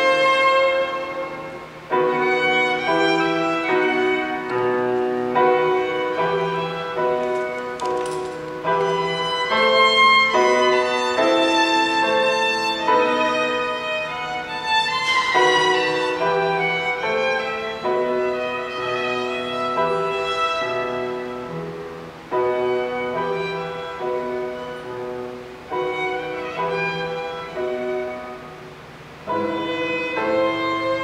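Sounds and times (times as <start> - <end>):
piano accompaniment: 0.0 - 31.0
violin playing slow melody: 0.0 - 31.0.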